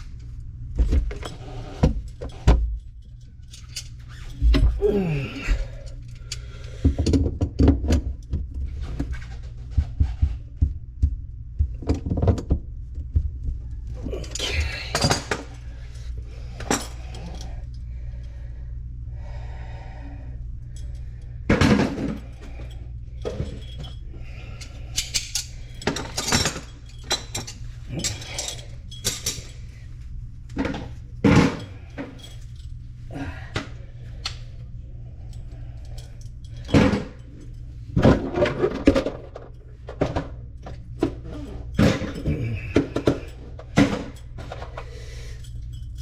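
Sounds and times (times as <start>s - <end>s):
low steady hum: 0.0s - 46.0s
plumbing parts and tools clunking: 0.8s - 17.8s, 20.7s - 29.8s, 30.5s - 32.6s, 35.3s - 46.0s.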